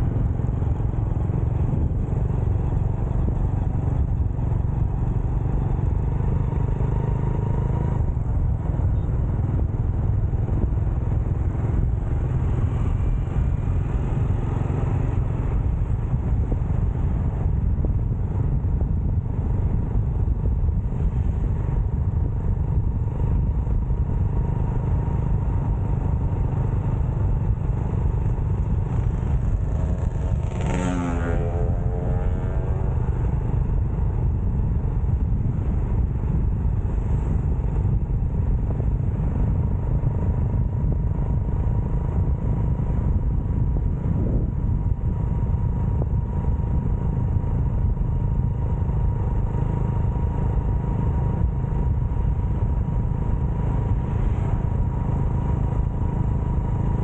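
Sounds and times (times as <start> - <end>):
motorcycle engine running: 0.0 - 57.0
wind rumble on microphone: 0.0 - 57.0
faint constant whine: 7.9 - 57.0.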